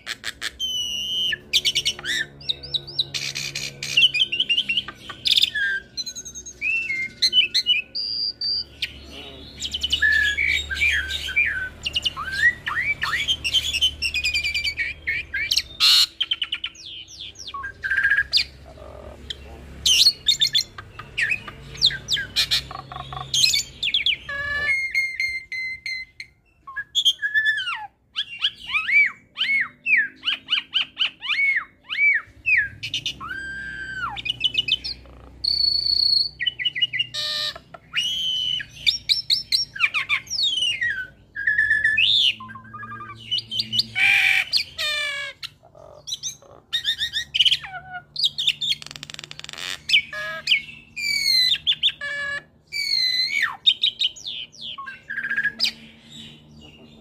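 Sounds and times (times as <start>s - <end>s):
bird singing whistles and trills: 0.0s - 18.6s, 19.9s - 57.0s.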